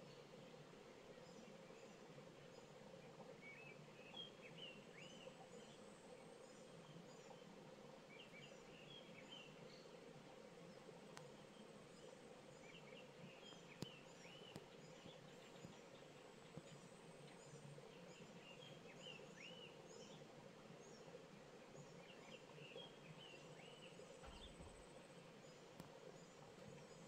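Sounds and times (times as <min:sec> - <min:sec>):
faint birds chirping: 0:00.0 - 0:27.0.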